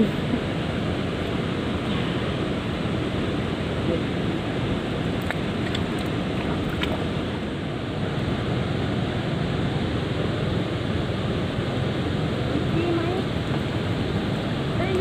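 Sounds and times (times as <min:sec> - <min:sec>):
river water rushing: 0:00.0 - 0:15.0
wind on microphone: 0:00.0 - 0:15.0.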